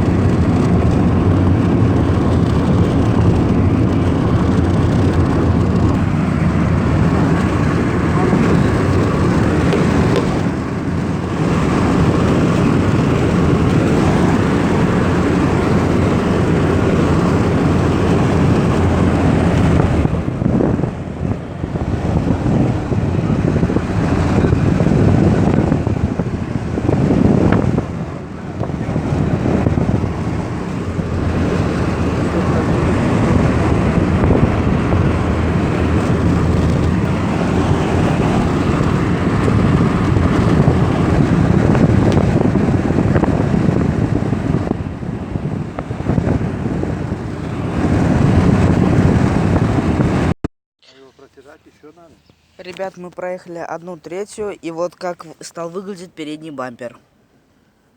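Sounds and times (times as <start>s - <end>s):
wind buffeting microphone: 0.0s - 50.4s
car road and engine noise: 0.0s - 57.9s.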